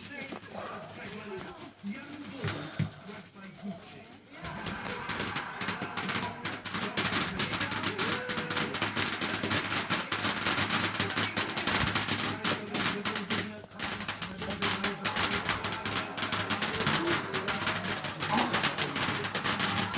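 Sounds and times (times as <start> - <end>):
fireworks crackling: 0.0 - 19.9.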